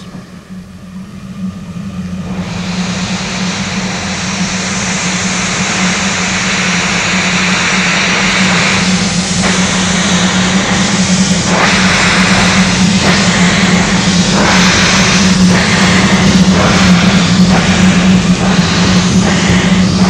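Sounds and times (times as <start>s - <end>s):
low steady hum: 0.0s - 20.0s
steam locomotive hissing: 0.0s - 20.0s.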